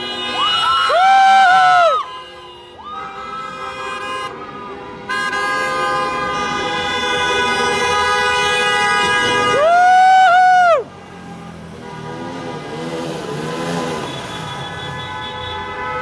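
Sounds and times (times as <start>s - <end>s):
car horns honking: 0.0s - 1.0s, 2.0s - 9.8s, 10.8s - 16.0s.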